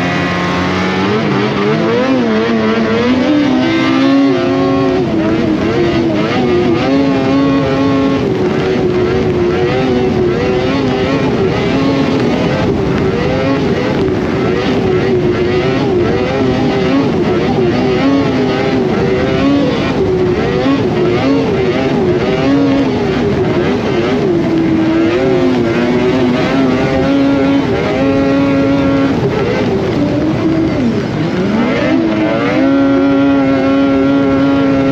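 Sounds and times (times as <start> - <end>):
snowmobile engine revving: 0.0 - 34.9.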